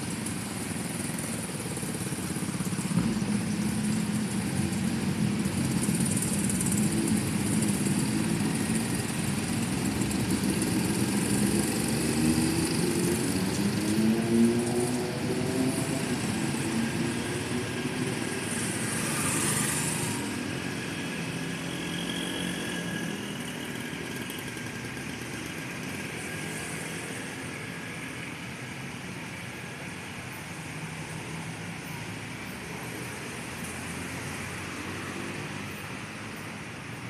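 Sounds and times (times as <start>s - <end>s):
motorcycles and cars pulling away: 0.0s - 37.0s.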